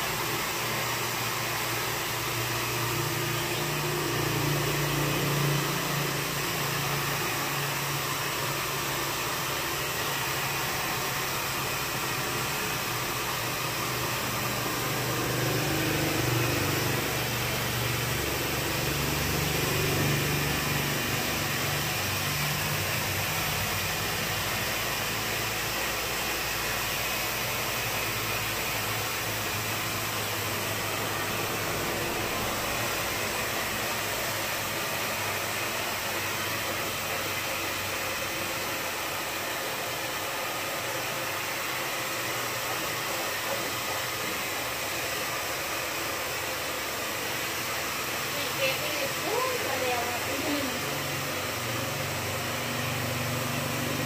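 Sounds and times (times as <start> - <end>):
small motor blowing air: 0.0 - 54.0.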